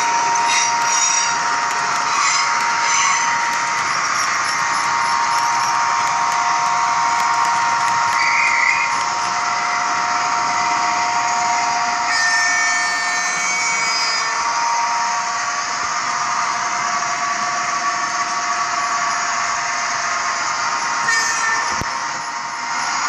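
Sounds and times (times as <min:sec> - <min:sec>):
electric locomotive motor whine: 0:00.0 - 0:23.0
wheels running on track: 0:00.0 - 0:23.0.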